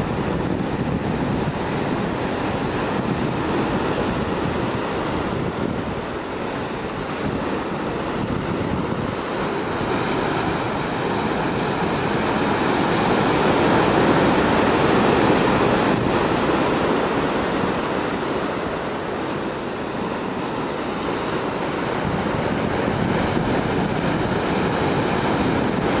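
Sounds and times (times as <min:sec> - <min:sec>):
surf breaking over rocks: 0:00.0 - 0:26.0
wind buffeting microphone: 0:00.0 - 0:26.0.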